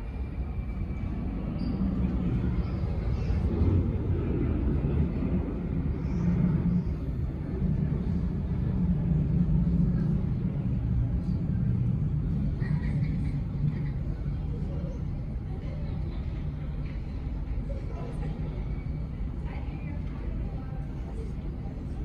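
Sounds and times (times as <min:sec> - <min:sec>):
distant jet engine rumble: 0:00.0 - 0:22.0.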